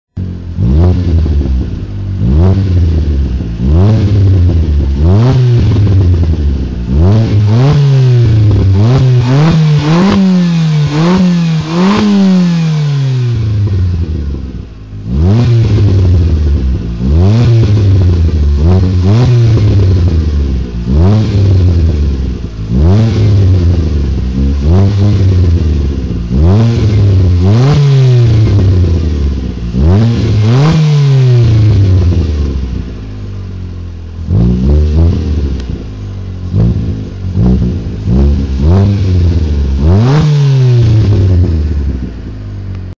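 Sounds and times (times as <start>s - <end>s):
car engine revving: 0.1s - 42.9s.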